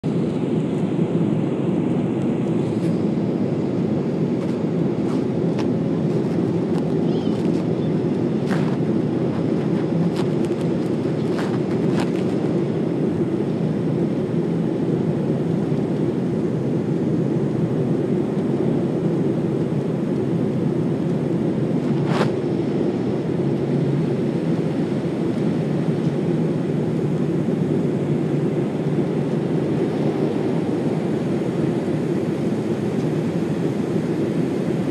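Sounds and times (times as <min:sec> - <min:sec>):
airliner cabin rumble: 0:00.0 - 0:34.9.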